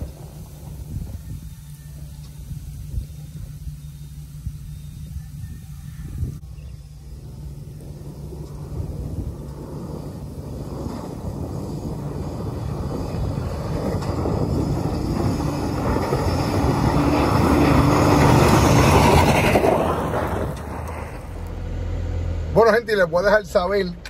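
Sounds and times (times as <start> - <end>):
vehicle driving over rough ground: 0.0 - 24.0.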